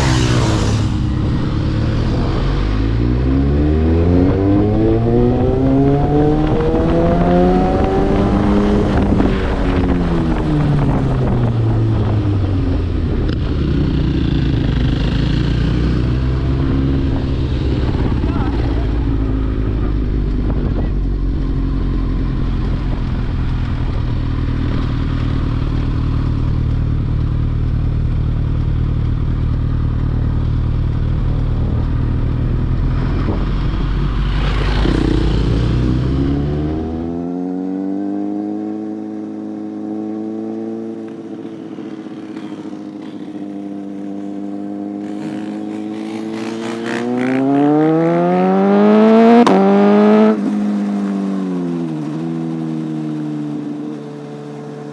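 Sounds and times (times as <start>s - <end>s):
motorcycle engine rumbling and revving: 0.0s - 54.9s.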